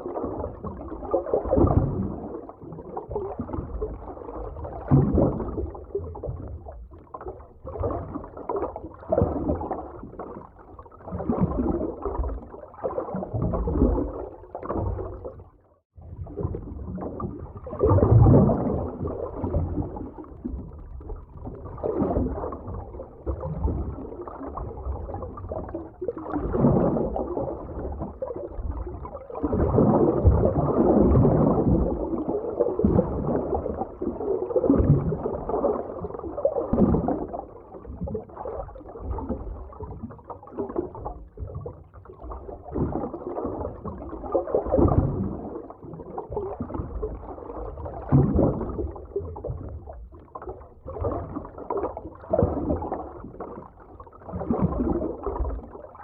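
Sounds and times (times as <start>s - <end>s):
underwater water surging: 0.0s - 15.5s, 16.1s - 56.0s.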